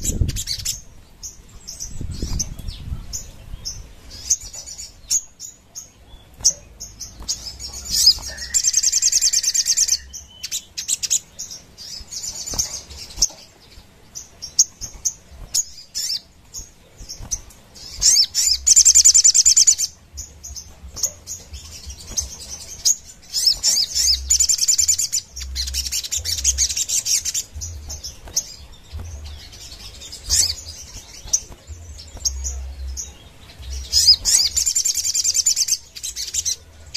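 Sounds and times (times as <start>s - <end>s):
bird singing in trilled bursts: 0.0s - 36.9s.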